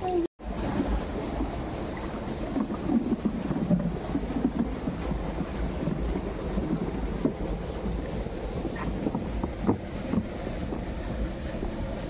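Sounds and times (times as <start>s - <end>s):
stream water rushing and splashing: 0.0s - 12.0s
wind rumbling on microphone: 0.0s - 12.0s.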